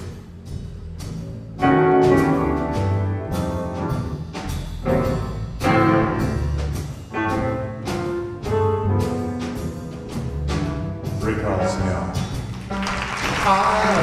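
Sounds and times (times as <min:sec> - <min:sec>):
jazz piano chords and melody: 0:00.0 - 0:13.5
deep low bass notes: 0:00.0 - 0:14.0
jazz band accompanying: 0:00.0 - 0:14.0.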